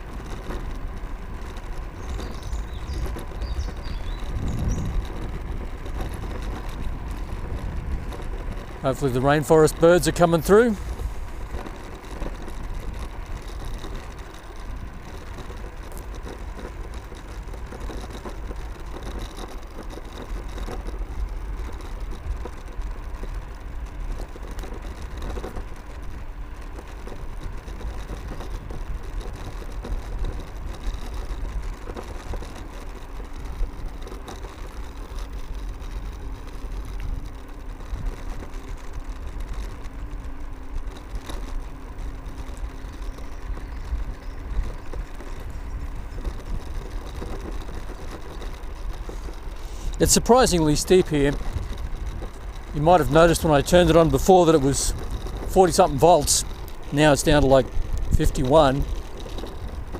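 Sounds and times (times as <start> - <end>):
faint electric motor whine: 0.0 - 59.9
tyre noise on road: 0.0 - 59.9
wind rumbling on microphone: 0.0 - 59.9.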